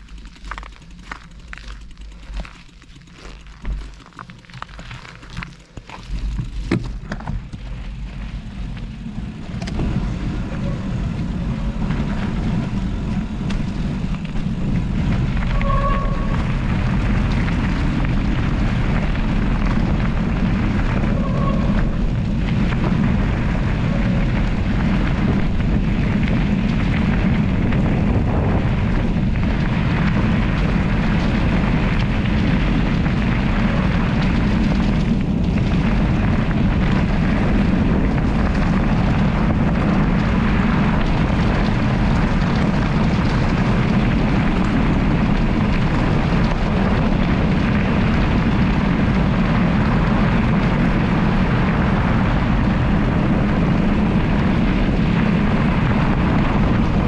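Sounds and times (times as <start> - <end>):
tyres rumbling over gravel: 0.0 - 57.0
wind buffeting microphone: 0.0 - 57.0.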